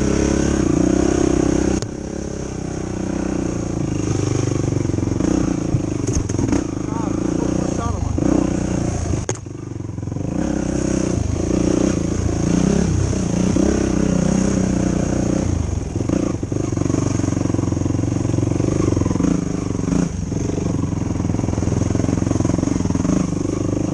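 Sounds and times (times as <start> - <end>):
atv engine revving: 0.0 - 23.9.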